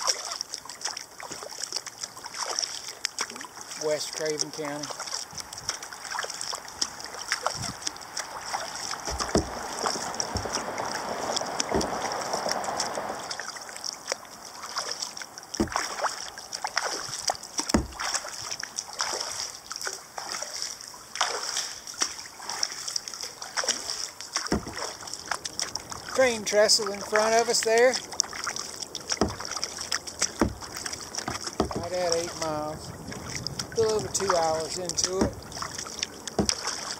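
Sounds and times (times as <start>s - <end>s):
paddle splashing in water: 0.0s - 36.9s
water dripping: 0.0s - 36.9s.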